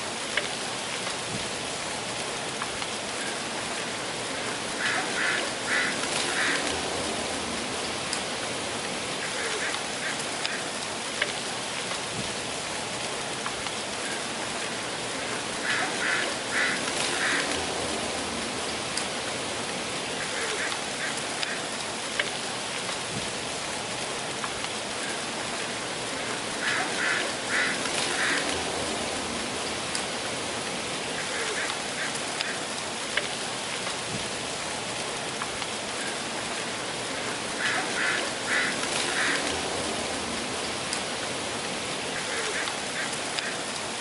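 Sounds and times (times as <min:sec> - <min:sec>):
breeze rustling dry leaves: 0:00.0 - 0:44.0.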